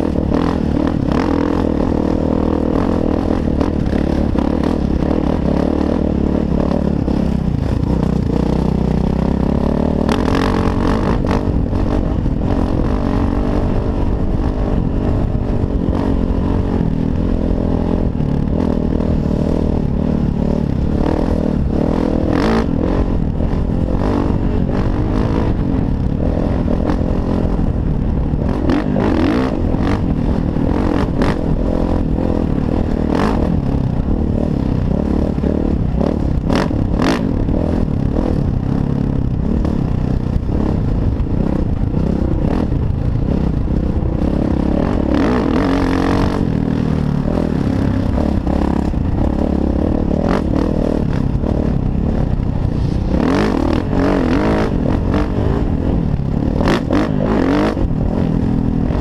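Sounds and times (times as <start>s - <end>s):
wind rumble: 0.0s - 59.0s.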